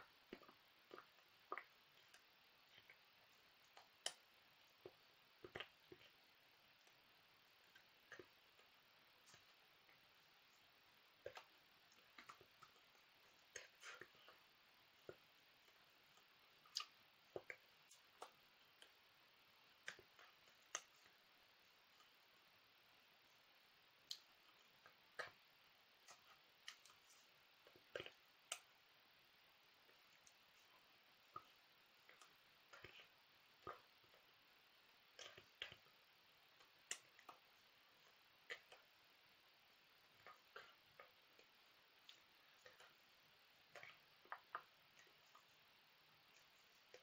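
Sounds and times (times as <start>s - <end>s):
faint clicks and taps: 0.0s - 47.0s.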